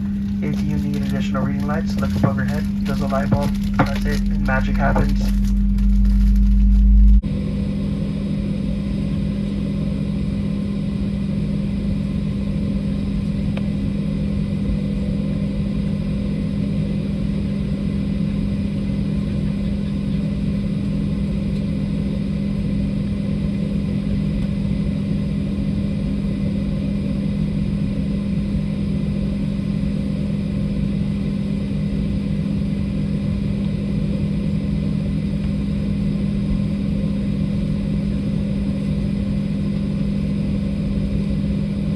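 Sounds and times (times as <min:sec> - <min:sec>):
airliner cabin jet engine drone: 0:00.0 - 0:41.9.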